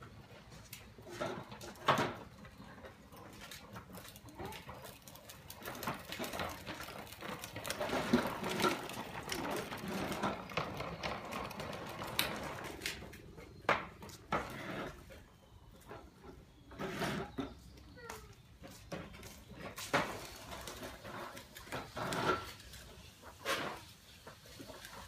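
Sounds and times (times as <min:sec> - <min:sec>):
plastic wheels rattling on paving: 0:00.0 - 0:25.0.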